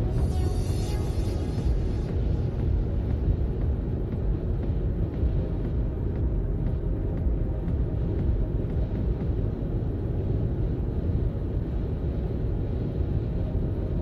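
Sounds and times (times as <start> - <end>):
car road rumble: 0.0 - 14.0.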